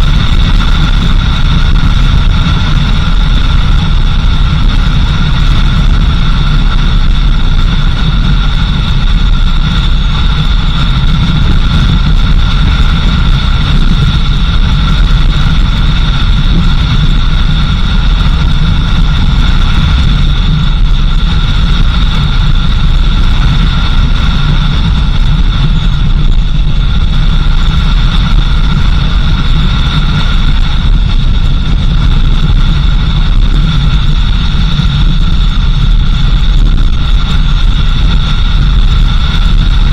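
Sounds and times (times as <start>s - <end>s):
car engine and road rumble: 0.0s - 39.9s
high-pitched whine: 0.0s - 39.9s.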